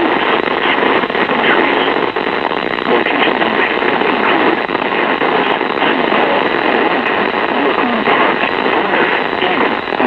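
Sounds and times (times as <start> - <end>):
loud static hiss: 0.0 - 10.0
muffled radio voice: 0.0 - 10.0.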